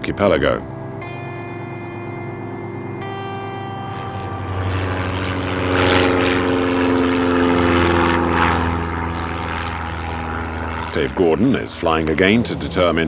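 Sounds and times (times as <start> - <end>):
propeller plane droning overhead: 0.0 - 13.0.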